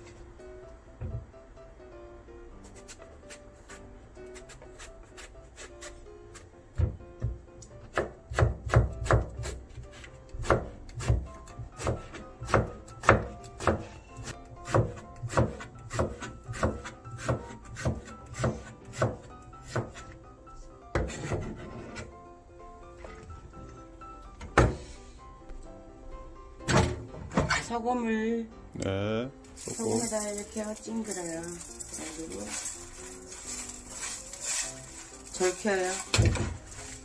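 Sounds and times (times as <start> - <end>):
faint background music: 0.0 - 37.0.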